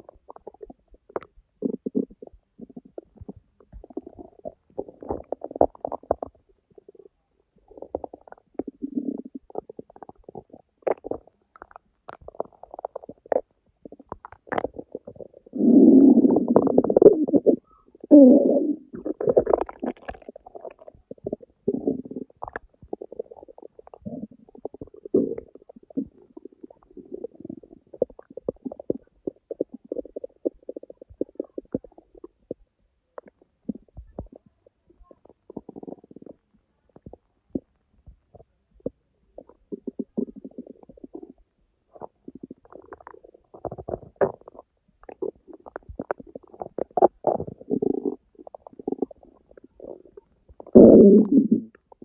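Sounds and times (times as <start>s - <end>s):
stomach growling: 0.0s - 52.0s.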